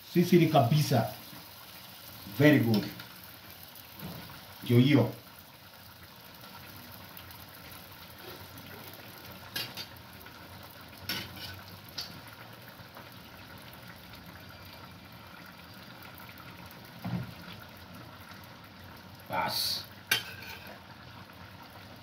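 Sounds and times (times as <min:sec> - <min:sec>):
food sizzling and bubbling: 0:00.0 - 0:22.0.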